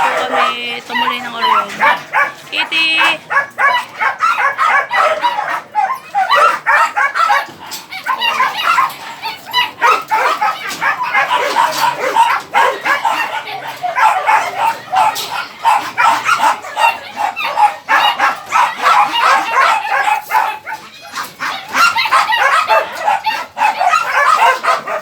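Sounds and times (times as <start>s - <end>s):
dogs barking and yipping: 0.0s - 25.0s.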